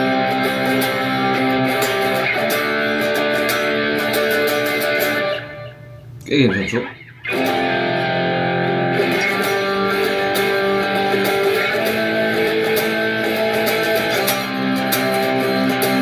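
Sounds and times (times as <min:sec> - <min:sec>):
plucked guitar instrumental music: 0:00.0 - 0:16.0.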